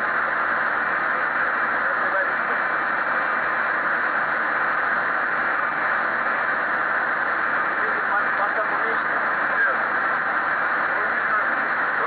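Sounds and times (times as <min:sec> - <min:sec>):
muffled cockpit noise hiss: 0:00.0 - 0:12.0.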